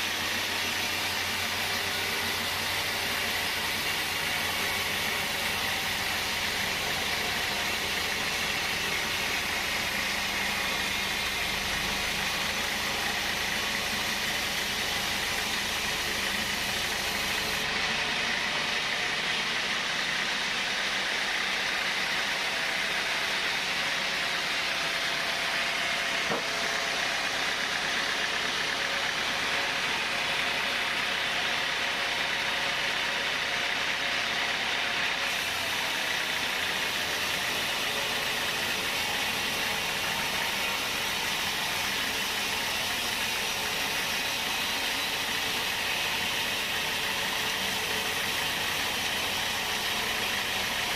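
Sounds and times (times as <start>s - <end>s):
sawmill saw cutting timber: 0.0s - 50.9s.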